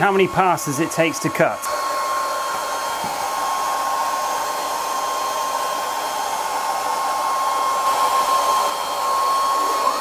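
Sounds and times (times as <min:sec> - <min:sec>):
laser cutter whine: 0:00.0 - 0:10.0.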